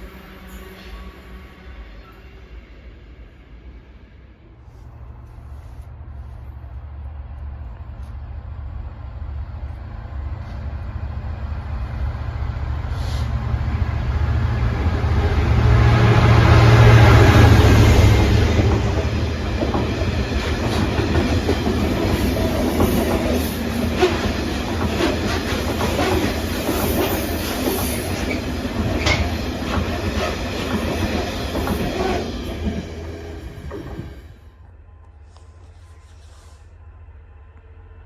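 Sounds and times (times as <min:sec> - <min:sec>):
locomotive engine rumble: 0:04.2 - 0:38.0.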